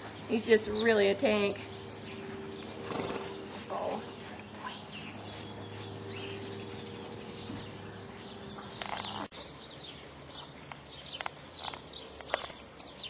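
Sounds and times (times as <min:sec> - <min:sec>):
steady low hum: 0:00.0 - 0:12.8
small birds chirping: 0:00.0 - 0:13.0.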